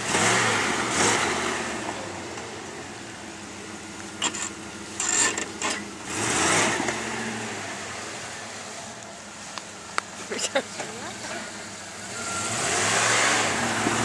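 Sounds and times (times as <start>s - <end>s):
car engine running at low speed: 0.0s - 14.0s.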